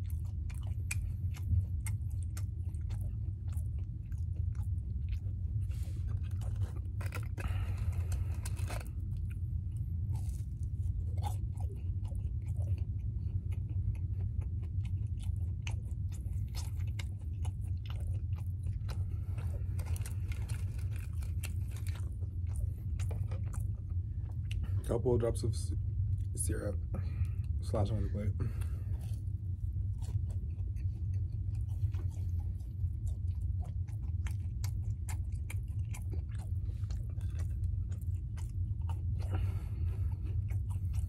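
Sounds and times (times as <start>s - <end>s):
low hum: 0.0s - 41.0s
wet chewing and crunching: 0.0s - 41.0s.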